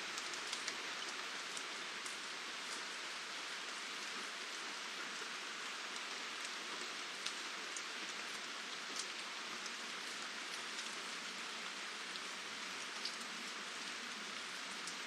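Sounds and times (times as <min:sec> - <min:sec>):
steady rain hiss: 0:00.0 - 0:15.0
raindrops ticking close by: 0:00.1 - 0:15.0.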